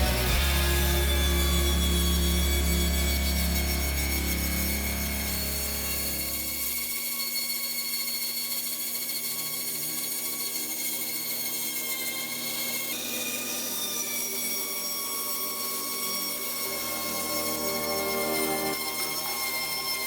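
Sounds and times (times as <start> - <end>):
belt grinder grinding steel: 0.0 - 20.0.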